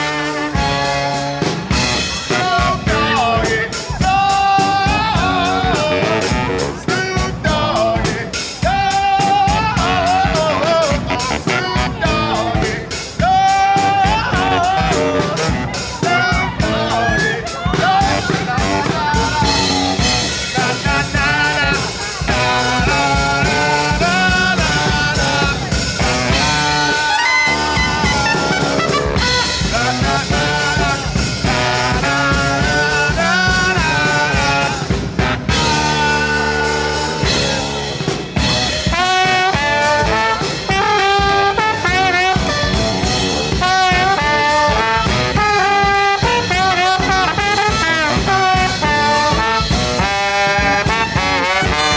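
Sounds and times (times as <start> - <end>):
brass band playing jazz: 0.0 - 51.9
drum beat: 0.0 - 51.9
saxophone: 0.0 - 51.9
trombone: 0.0 - 51.9.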